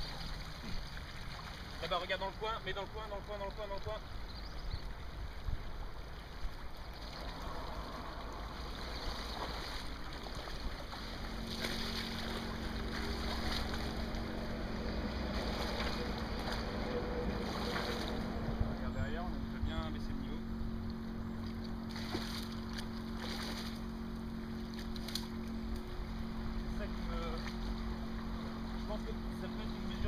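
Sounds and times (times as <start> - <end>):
low hum: 0.0 - 30.0
sloshing through river water: 0.0 - 30.0.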